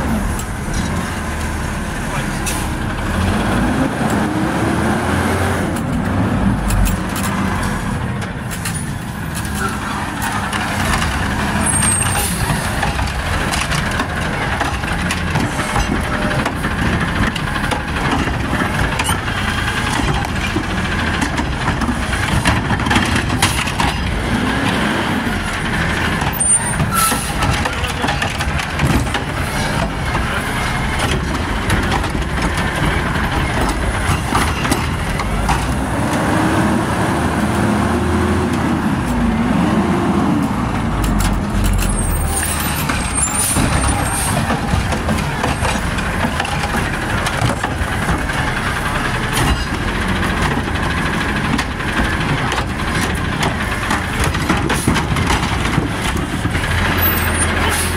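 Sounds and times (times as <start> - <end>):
garbage truck engine revving: 0.0 - 57.9.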